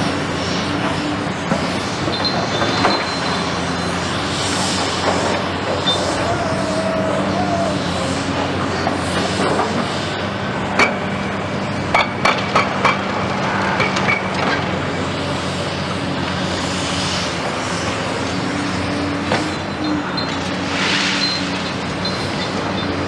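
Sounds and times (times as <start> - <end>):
excavator diesel engines running: 0.0 - 23.0.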